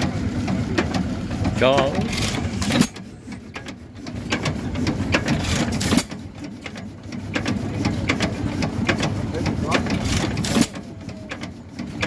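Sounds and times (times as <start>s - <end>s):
stationary engine clattering: 0.0s - 12.0s.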